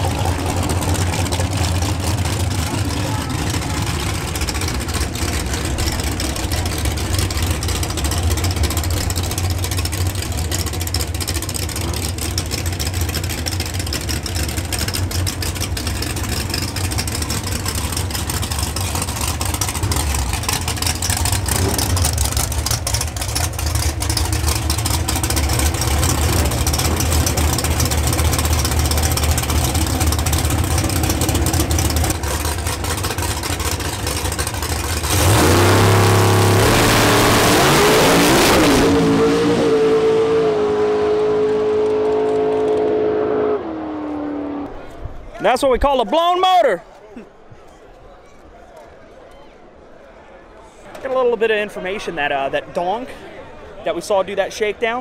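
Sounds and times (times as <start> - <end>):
race car engines idling: 0.0 - 45.3.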